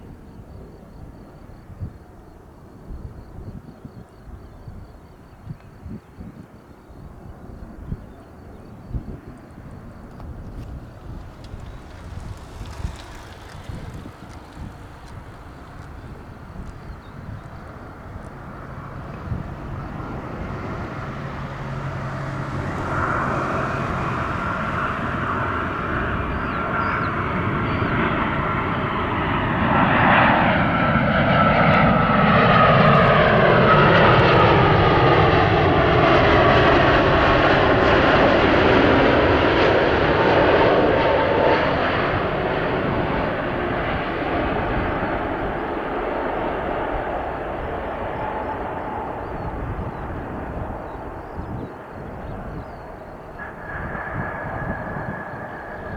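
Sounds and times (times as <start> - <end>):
airliner jet engines passing: 0.0 - 55.9.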